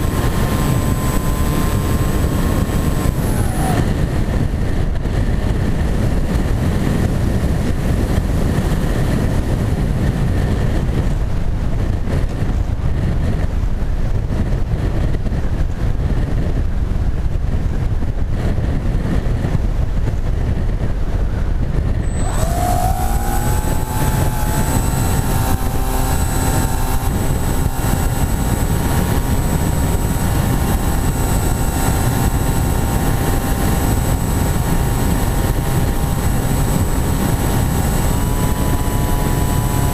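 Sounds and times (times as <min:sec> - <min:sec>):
electric motor and propeller whine: 0:00.0 - 0:16.5, 0:18.3 - 0:39.9
wind rushing over microphone: 0:00.0 - 0:39.9.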